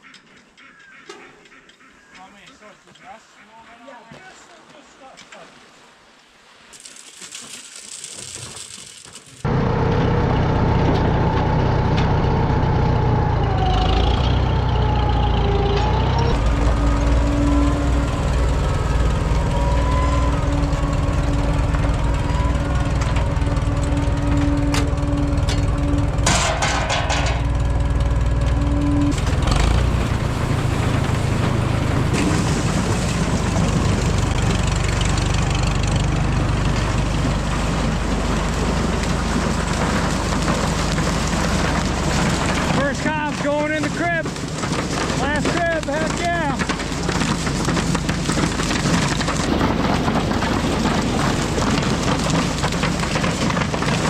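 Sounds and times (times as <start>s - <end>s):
tractor engine running: 8.0s - 54.0s.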